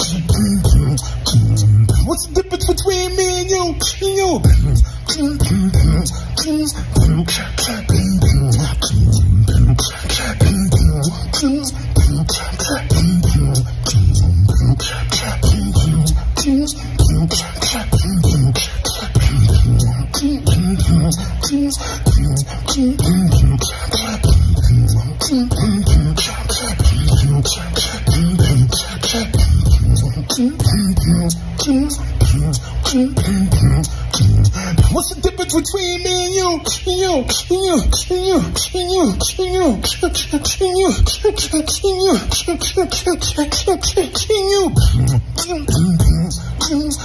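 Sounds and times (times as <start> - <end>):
low hummed bass tones: 0.0 - 47.0
person beatboxing: 0.0 - 47.0.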